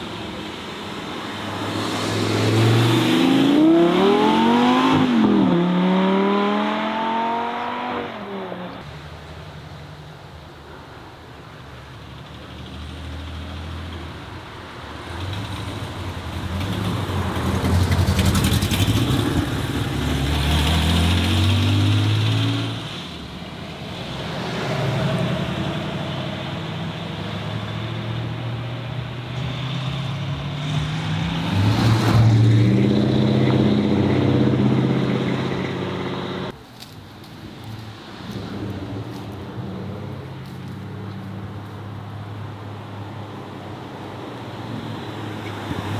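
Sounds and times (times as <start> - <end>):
car engines accelerating: 0.0 - 8.9, 14.8 - 36.6, 37.4 - 45.9.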